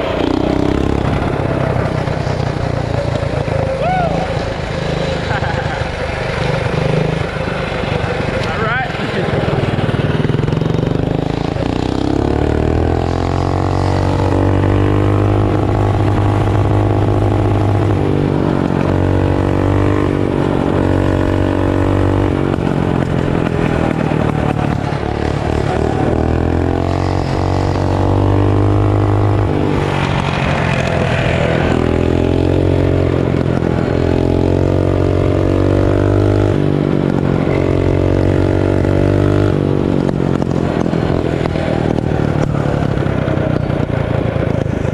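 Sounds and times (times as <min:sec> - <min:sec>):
mini bike engine revving: 0:00.0 - 0:44.9.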